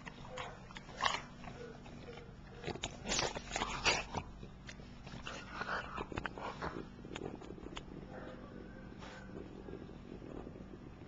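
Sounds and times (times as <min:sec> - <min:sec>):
dog snuffling and chewing: 0:00.0 - 0:11.0.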